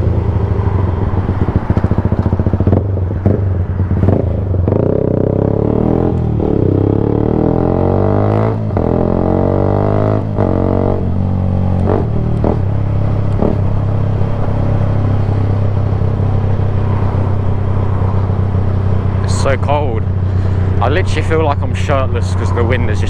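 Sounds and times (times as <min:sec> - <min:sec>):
loud sport bike engine accelerating: 0:00.0 - 0:23.0.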